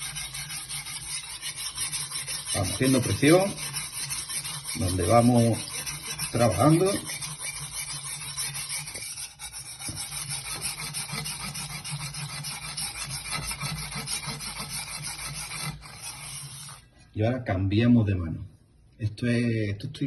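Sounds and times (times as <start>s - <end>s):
blade scraping on wet whetstone: 0.0s - 16.9s.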